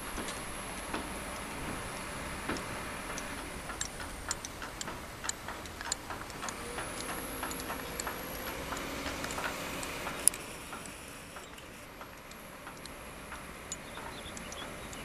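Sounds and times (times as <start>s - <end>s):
excavator diesel engine running: 0.0s - 15.0s
hydraulic whine rising: 0.0s - 15.0s
sharp ticks and clicks: 0.0s - 15.0s.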